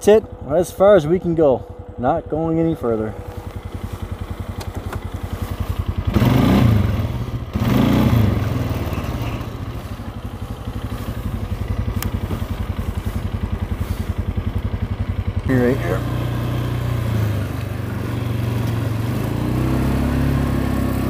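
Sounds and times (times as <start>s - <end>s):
atv engine idling and revving: 0.0s - 21.0s.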